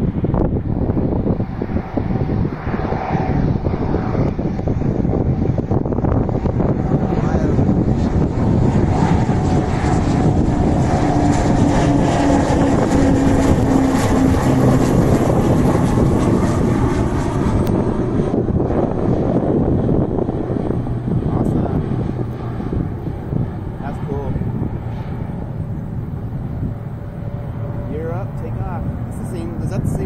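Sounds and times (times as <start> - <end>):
turboprop planes passing overhead: 0.0 - 30.0.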